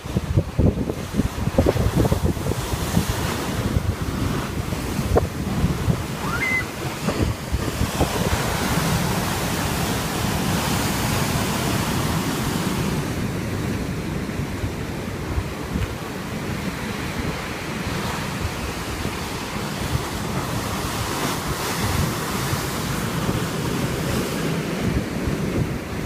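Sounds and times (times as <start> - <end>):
waves breaking and washing in: 0.0 - 26.0
wind buffeting the microphone: 0.0 - 26.0.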